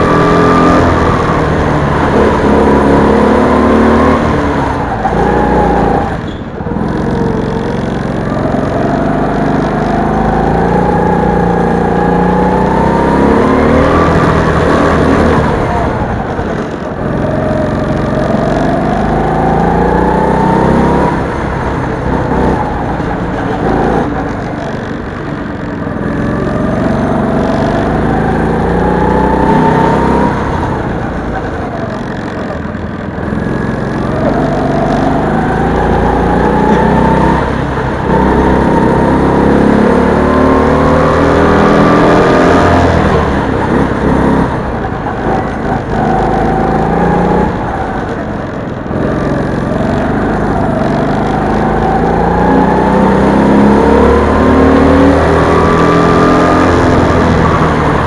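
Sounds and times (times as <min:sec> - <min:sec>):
go-kart engine revving: 0:00.0 - 0:58.0.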